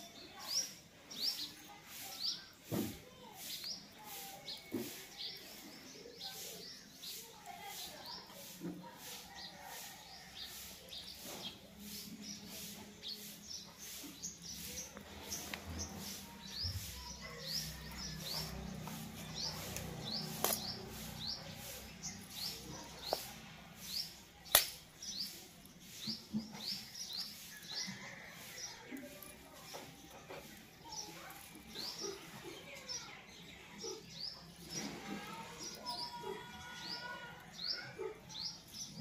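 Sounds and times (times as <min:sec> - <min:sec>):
small bird chirping: 0:00.0 - 0:39.0.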